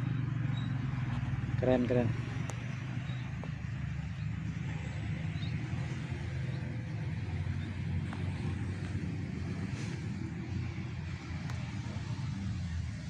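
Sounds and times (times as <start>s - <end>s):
heavy trucks passing: 0.0s - 13.0s.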